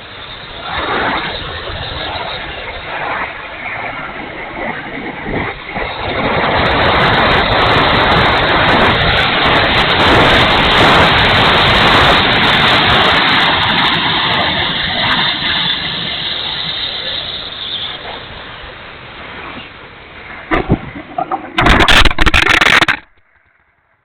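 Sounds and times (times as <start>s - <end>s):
jet model rushing whoosh: 0.1s - 17.2s, 17.8s - 23.2s
wind buffeting microphone: 0.2s - 16.8s, 19.2s - 23.0s.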